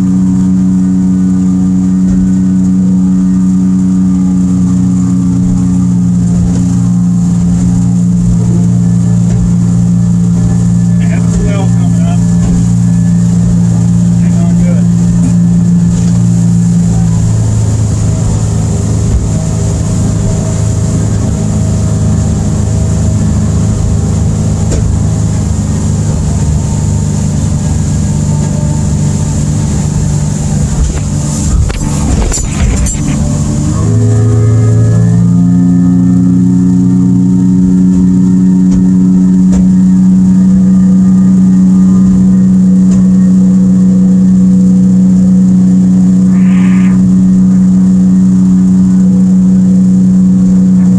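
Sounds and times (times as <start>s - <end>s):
outboard motor running hard: 0.0s - 50.9s
water rushing under hull: 0.0s - 50.9s.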